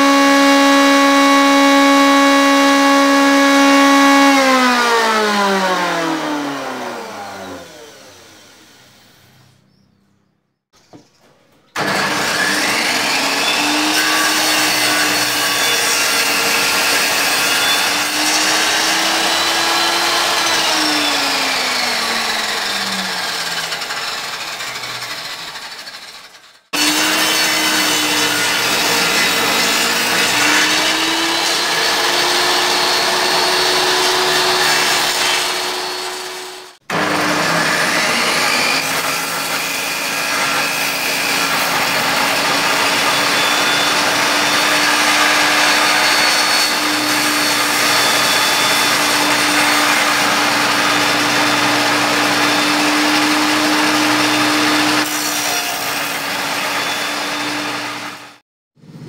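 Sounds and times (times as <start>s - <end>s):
table saw ripping wood: 0.0s - 9.5s, 11.7s - 59.0s.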